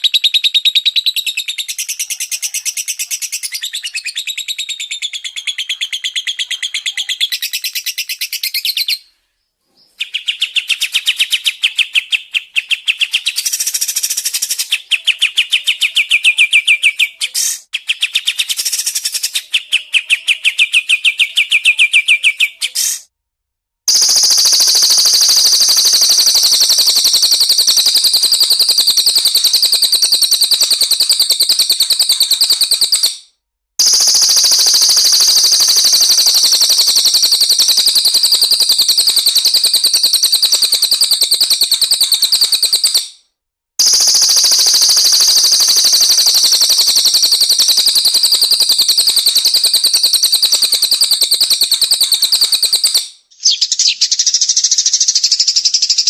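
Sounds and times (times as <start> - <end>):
lower-pitched bird recording: 0.0 - 23.0, 23.9 - 33.2, 33.8 - 43.0, 43.8 - 56.0
songbird rapid high-pitched song: 0.0 - 23.0, 23.9 - 43.2, 43.8 - 56.0.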